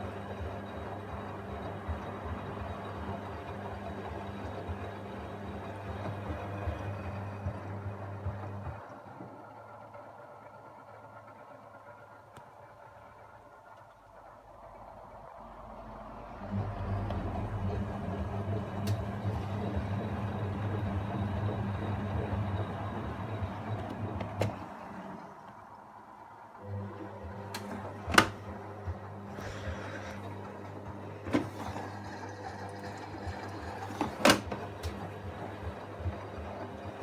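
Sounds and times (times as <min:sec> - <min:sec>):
washing machine drum motor humming: 0:00.0 - 0:09.4, 0:14.2 - 0:37.0.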